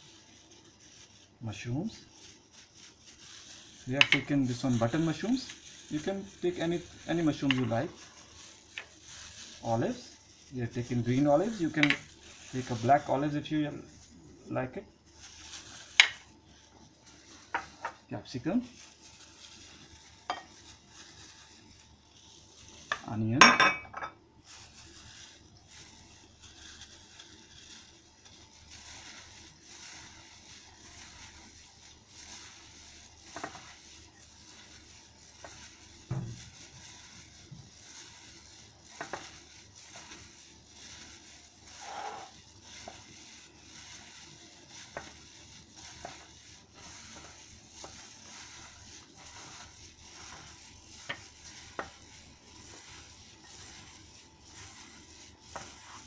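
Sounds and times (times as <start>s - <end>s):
gloved hand mixing food: 0.0s - 23.5s, 24.2s - 56.0s.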